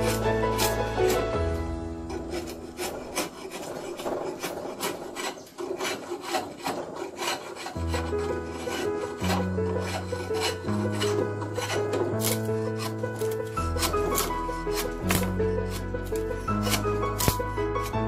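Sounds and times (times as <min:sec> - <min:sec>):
background music: 0:00.0 - 0:04.5, 0:07.1 - 0:18.0
blade scraping wood: 0:00.0 - 0:18.0.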